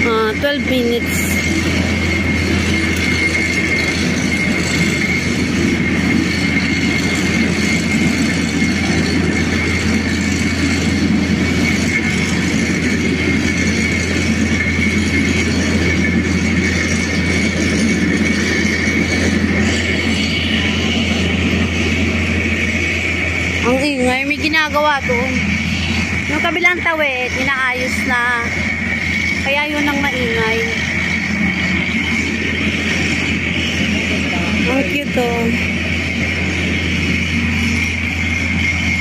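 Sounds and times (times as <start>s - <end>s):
construction machinery drone: 0.0s - 39.0s.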